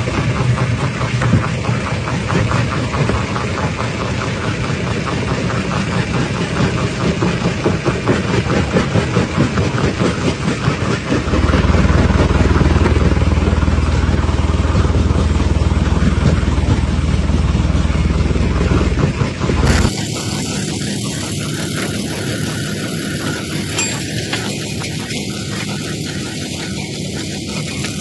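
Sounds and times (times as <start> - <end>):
heavy machinery low drone: 0.0 - 28.0.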